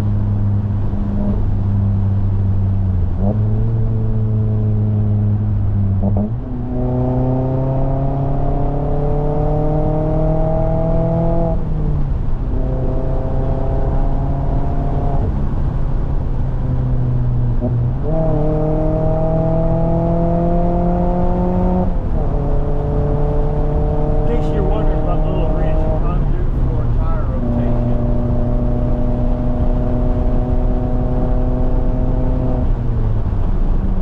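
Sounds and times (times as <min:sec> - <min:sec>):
car engine revving under load: 0:00.0 - 0:34.0.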